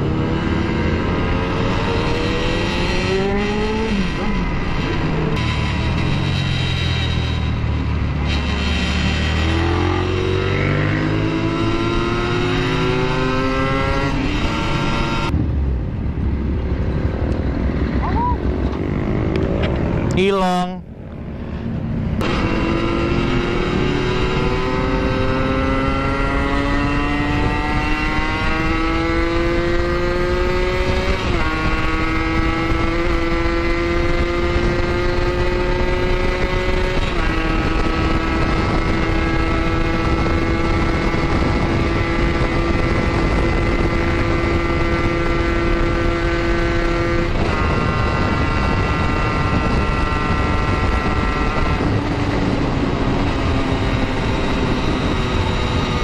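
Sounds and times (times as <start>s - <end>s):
motorcycle engine accelerating: 0.0s - 20.2s, 21.4s - 56.0s
wind on microphone: 0.0s - 56.0s.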